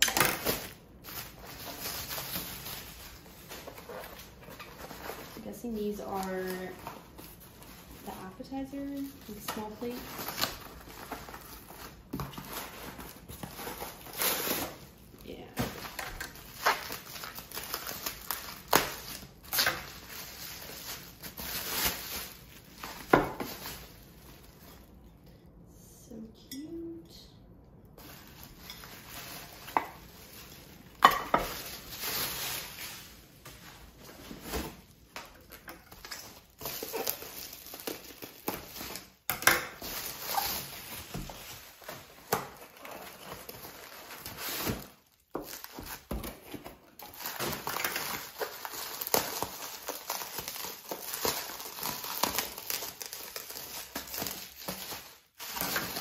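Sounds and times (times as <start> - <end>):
plastic and bubble wrap crinkling: 0.0 - 25.3, 28.0 - 56.0.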